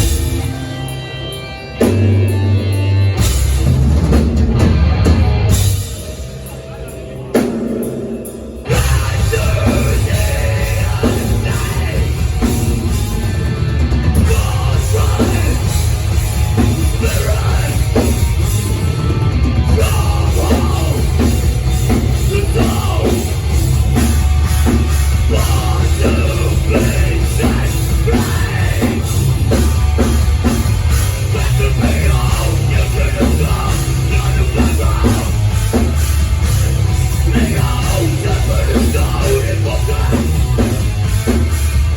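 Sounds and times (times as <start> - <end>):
bass guitar: 0.0 - 41.9
distorted guitars: 0.0 - 41.9
pounding drums: 3.3 - 41.9.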